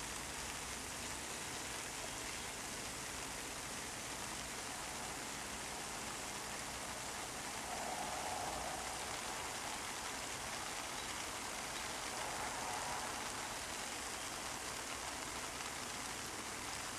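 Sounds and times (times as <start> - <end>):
water showering onto leaves: 0.0 - 16.9.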